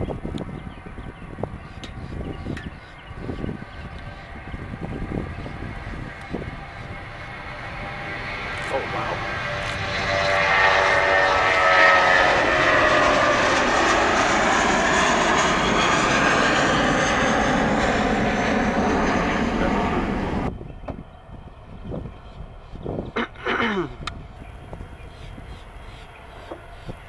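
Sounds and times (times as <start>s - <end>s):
jet engines with whining tones: 0.0s - 27.0s.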